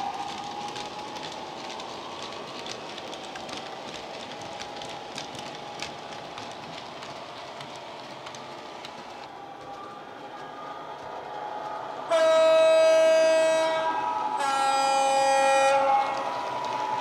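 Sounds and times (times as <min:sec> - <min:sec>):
faint locomotive engine drone: 0:00.0 - 0:17.0
model train wagons rattling: 0:00.0 - 0:17.0.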